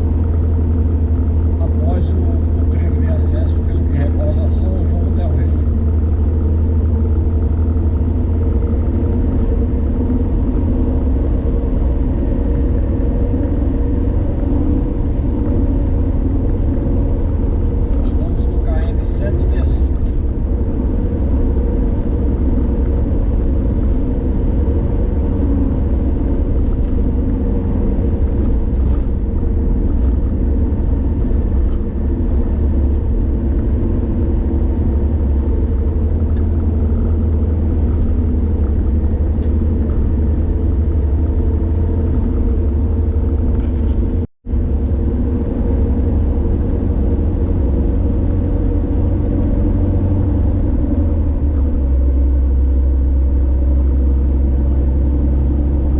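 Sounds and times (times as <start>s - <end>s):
car interior road rumble: 0.0s - 55.9s.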